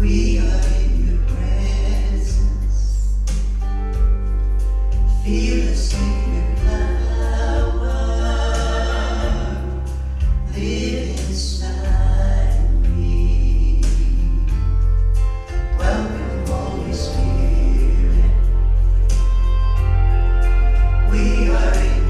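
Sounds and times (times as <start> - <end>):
gospel group singing in harmony: 0.0 - 3.1, 5.0 - 22.0
instrumental accompaniment with bass: 0.0 - 22.0.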